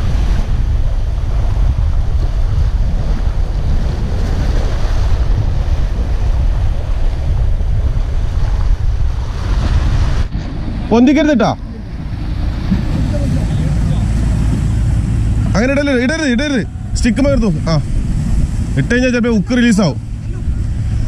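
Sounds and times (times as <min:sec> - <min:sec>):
waves breaking on rocks: 0:00.0 - 0:21.0
wind buffeting microphone: 0:00.0 - 0:21.0.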